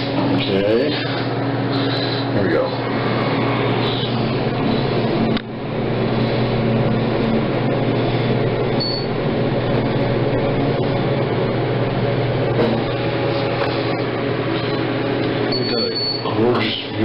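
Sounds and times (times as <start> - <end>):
elevator pump motor humming: 0.0 - 17.0.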